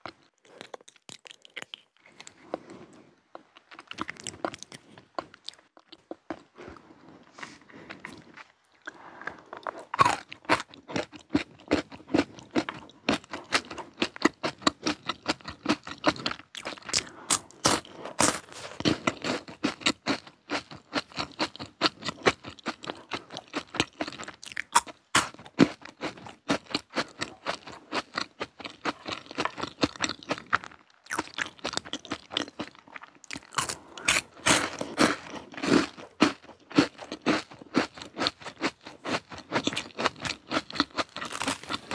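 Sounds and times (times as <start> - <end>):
crunching and chewing wafer: 0.0 - 41.9.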